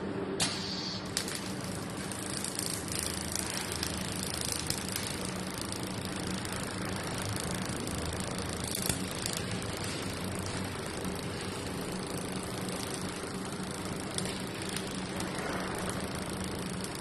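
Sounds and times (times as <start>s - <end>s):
laser welding machine hum and hiss: 0.0s - 17.0s.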